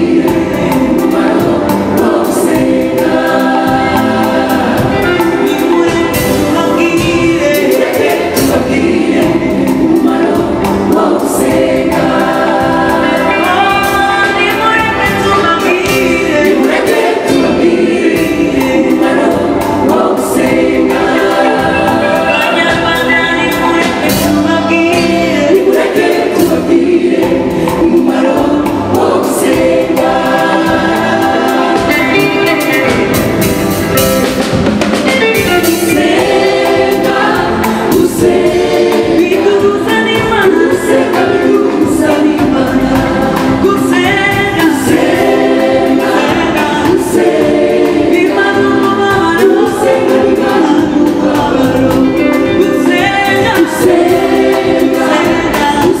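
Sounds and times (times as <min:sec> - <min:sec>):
choir singing gospel song: 0:00.0 - 0:56.0
steady beat: 0:00.0 - 0:56.0.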